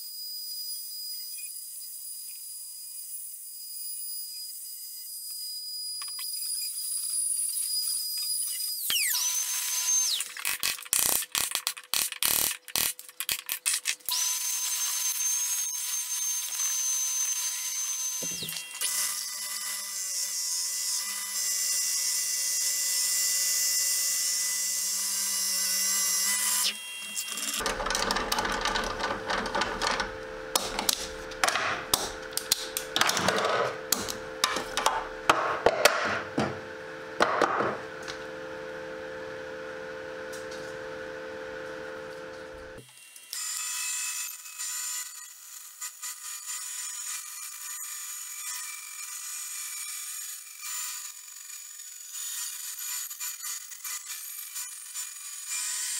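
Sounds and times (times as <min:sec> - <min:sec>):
power tool motor whine: 0:00.0 - 0:11.2, 0:14.1 - 0:55.9.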